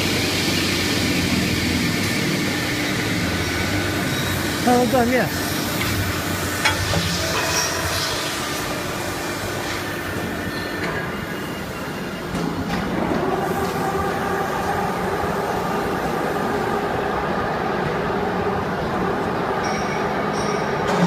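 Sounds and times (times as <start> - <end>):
industrial machinery humming: 0.0 - 21.0.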